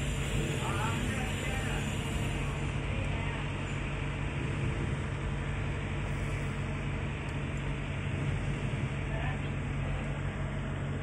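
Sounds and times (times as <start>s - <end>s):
constant rushing noise: 0.0s - 11.0s
low hum: 0.0s - 11.0s.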